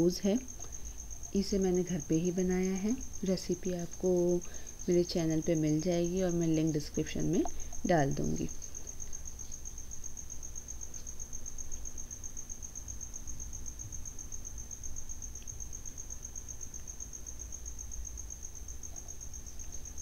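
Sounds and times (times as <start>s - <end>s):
cricket trilling: 0.0s - 20.0s
low steady hum: 0.0s - 20.0s.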